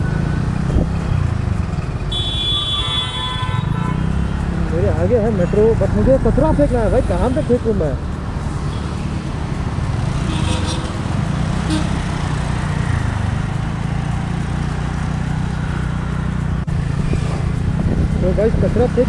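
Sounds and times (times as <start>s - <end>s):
road and traffic noise: 0.0s - 19.0s
scooter engine running: 0.0s - 19.0s.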